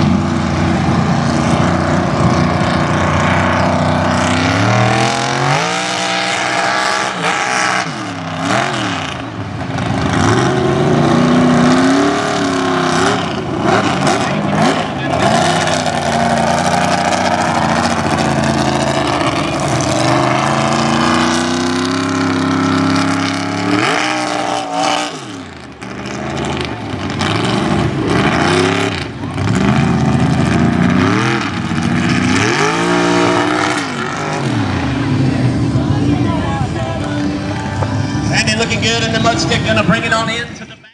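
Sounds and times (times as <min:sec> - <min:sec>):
truck engine revving hard: 0:00.0 - 0:40.9.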